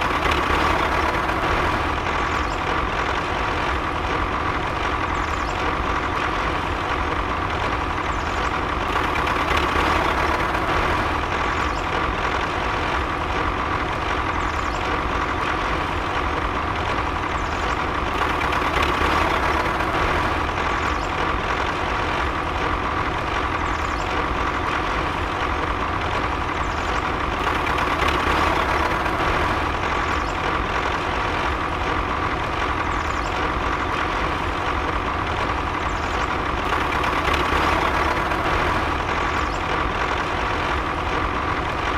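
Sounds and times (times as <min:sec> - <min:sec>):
engine humming: 0:00.0 - 0:41.9.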